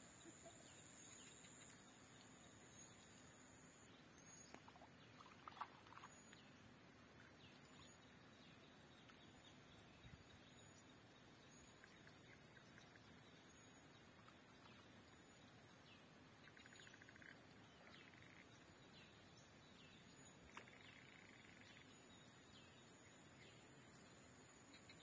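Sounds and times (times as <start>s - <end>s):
faint birdsong chirps and trills: 0.0s - 25.0s.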